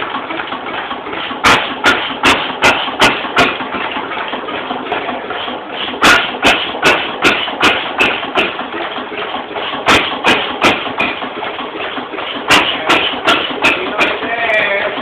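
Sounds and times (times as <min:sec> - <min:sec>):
stationary engine knocking: 0:00.0 - 0:15.0.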